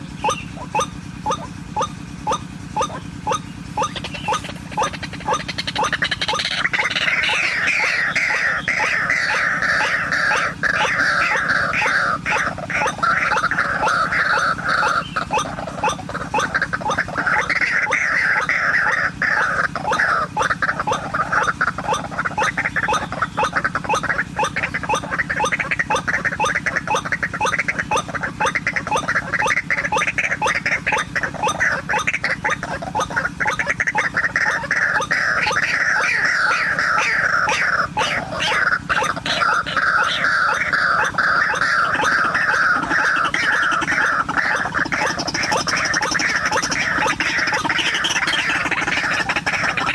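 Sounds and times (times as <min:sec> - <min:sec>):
waterhens croaking: 0:00.0 - 0:49.9.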